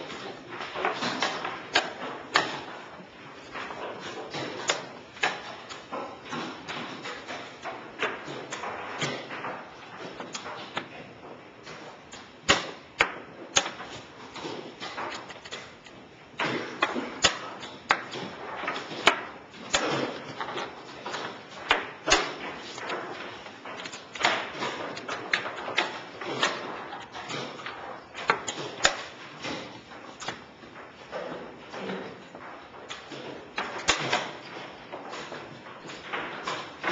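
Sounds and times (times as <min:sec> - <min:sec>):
low room murmur: 0:00.0 - 0:36.9.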